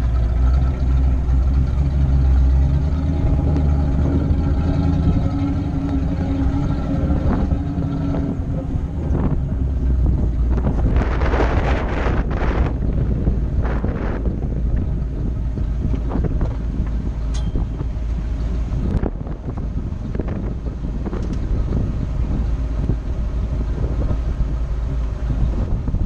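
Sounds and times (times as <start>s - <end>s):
car engine running: 0.0s - 26.0s
wind buffeting microphone: 0.0s - 26.0s.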